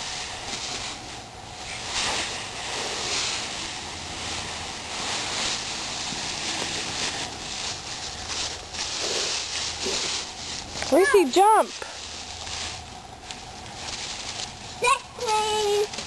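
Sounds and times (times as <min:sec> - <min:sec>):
dry leaves rustling and crunching: 0:00.0 - 0:16.0.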